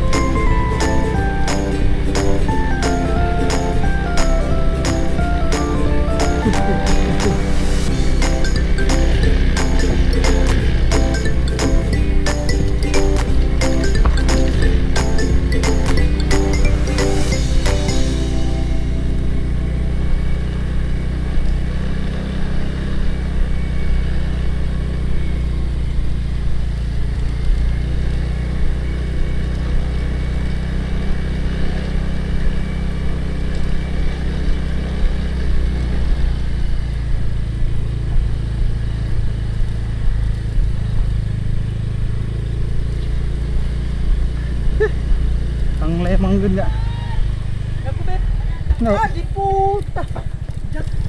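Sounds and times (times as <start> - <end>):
motor scooter engine running: 0.0 - 51.0.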